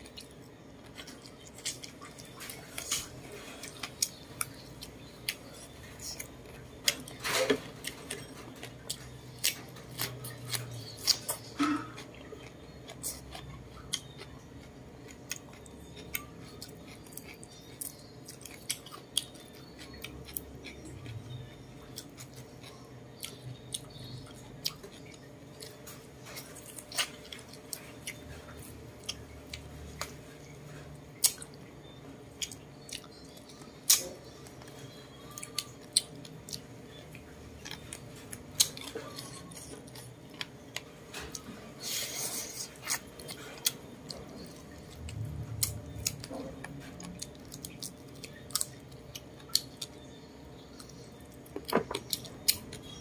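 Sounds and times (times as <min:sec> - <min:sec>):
person chewing meat: 0:00.0 - 0:53.0.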